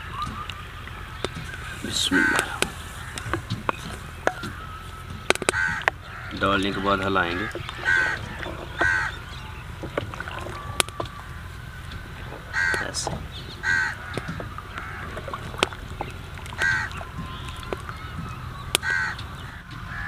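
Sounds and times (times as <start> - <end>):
crows cawing: 0.9 - 20.0.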